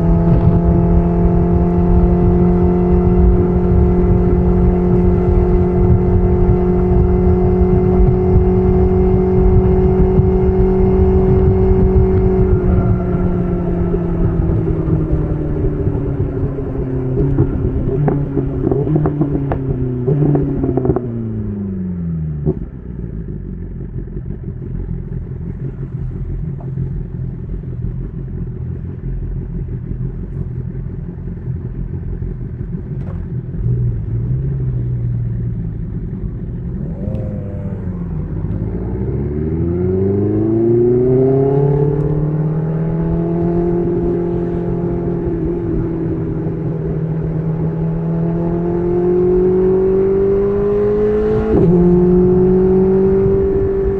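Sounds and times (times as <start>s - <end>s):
motorcycle engine: 0.0s - 53.9s.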